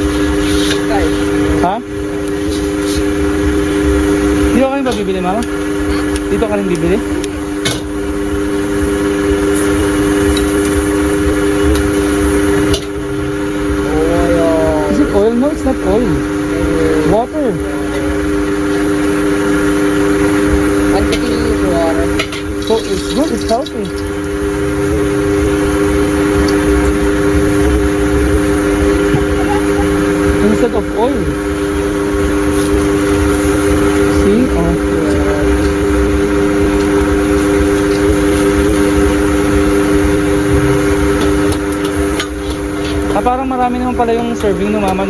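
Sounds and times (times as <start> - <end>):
low rumbling background: 0.0 - 44.7
steady mechanical hum: 0.0 - 45.0
steady multi-pitched drone: 0.0 - 45.0.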